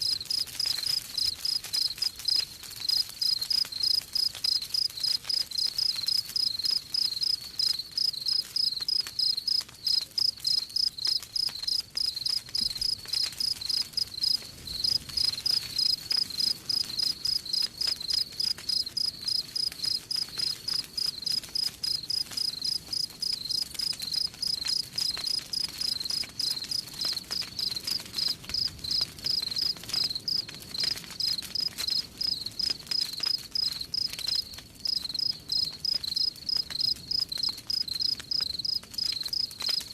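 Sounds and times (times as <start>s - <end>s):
campfire crackling: 0.0s - 39.9s
crickets chirping: 1.2s - 1.6s, 2.8s - 39.8s.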